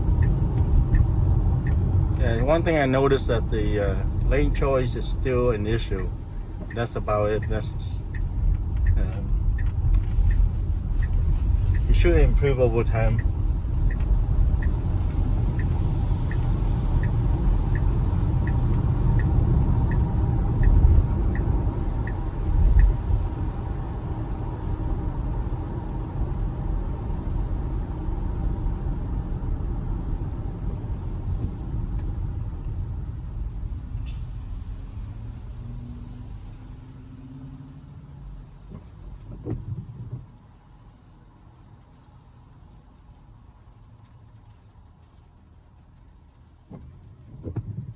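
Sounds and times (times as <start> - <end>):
road and tyre noise on wet road: 0.0 - 47.9
turn signal ticking: 0.0 - 47.9.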